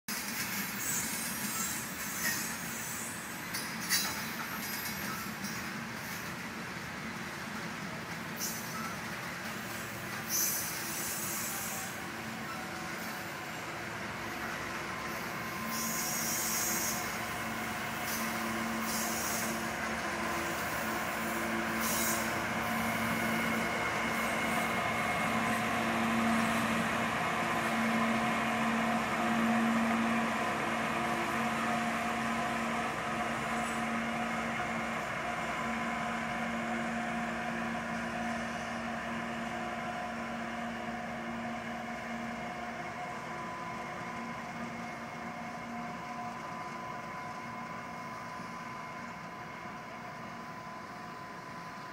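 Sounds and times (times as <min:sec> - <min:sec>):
diesel locomotive engine drone: 0:00.1 - 0:51.9
freight train rolling rumble: 0:00.1 - 0:51.9.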